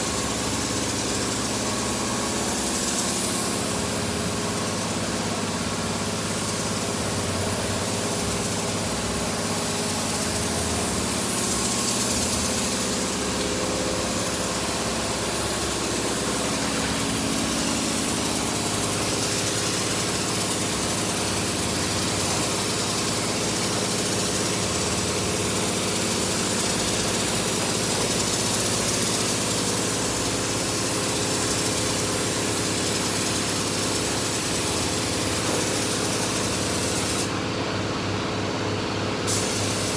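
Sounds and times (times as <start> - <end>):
hiss of air and spray: 0.0 - 37.4, 39.2 - 39.9
compressor motor hum: 0.0 - 39.9.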